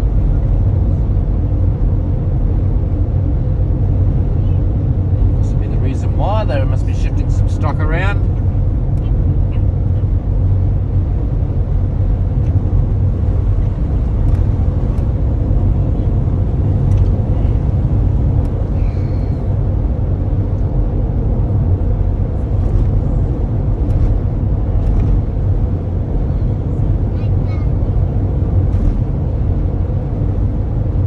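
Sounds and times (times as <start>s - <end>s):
engine and tyre rumble: 0.0s - 31.0s.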